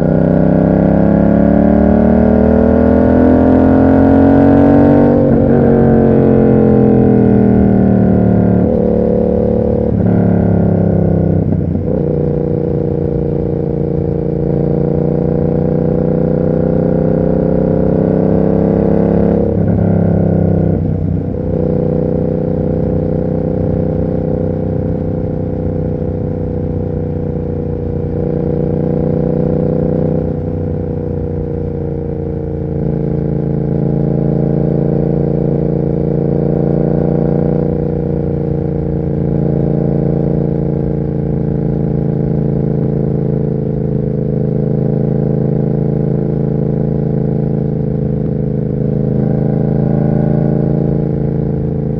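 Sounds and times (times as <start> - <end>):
motorcycle engine shifting gears: 0.0 - 51.9.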